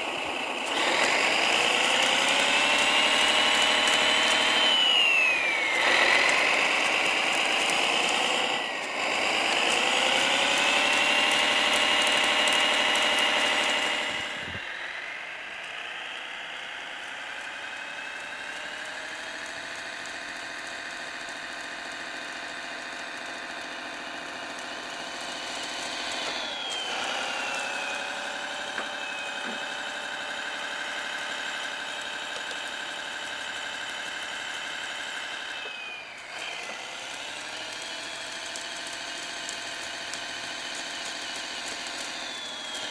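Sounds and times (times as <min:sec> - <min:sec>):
simulated diesel engine revving: 0:00.0 - 0:20.4, 0:21.3 - 0:42.9.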